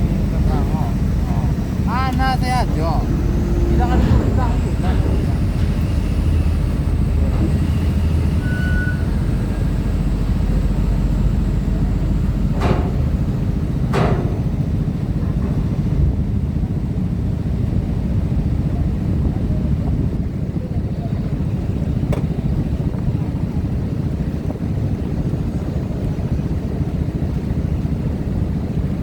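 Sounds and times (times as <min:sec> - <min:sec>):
truck and car engines rumbling: 0:00.0 - 0:29.0.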